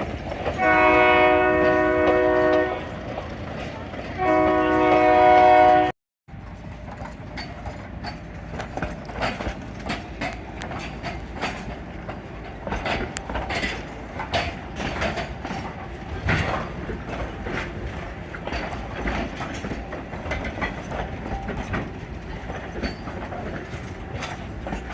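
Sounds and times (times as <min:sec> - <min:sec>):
train rumbling on track: 0:00.0 - 0:24.9
wheels clanking on rail joints: 0:00.0 - 0:24.9.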